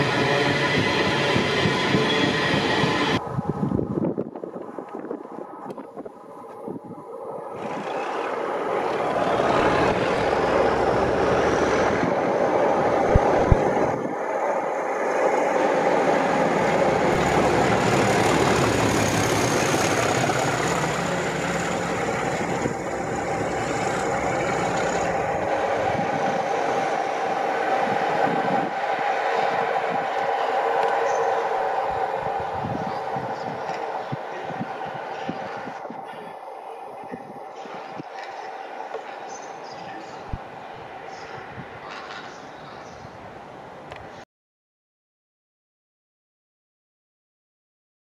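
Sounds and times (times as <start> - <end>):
train rushing rumble: 0.0 - 5.5, 7.5 - 43.8.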